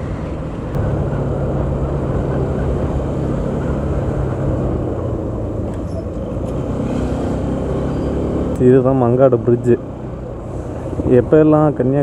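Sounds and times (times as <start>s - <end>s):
wind and road noise: 0.0s - 12.0s
motorcycle engine running: 0.8s - 12.0s.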